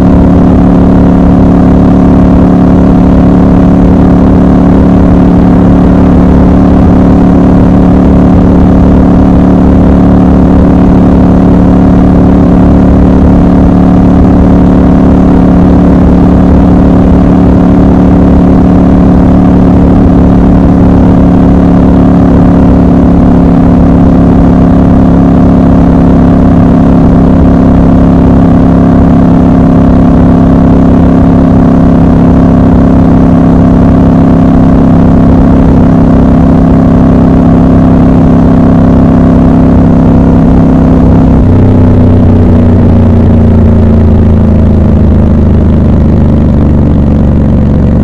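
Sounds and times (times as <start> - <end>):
motorcycle engine cruising: 0.0 - 48.0.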